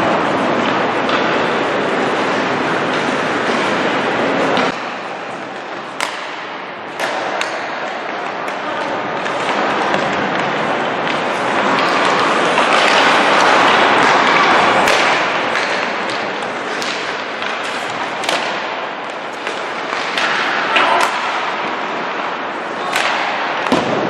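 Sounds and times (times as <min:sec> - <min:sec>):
rink noise from skates: 0:00.0 - 0:24.0
pucks knocking off sticks and boards: 0:04.5 - 0:24.0.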